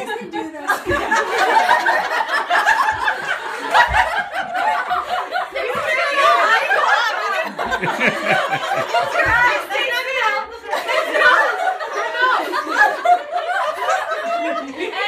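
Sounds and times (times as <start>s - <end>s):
excited chatter: 0.0s - 15.0s
women laughing: 0.0s - 15.0s.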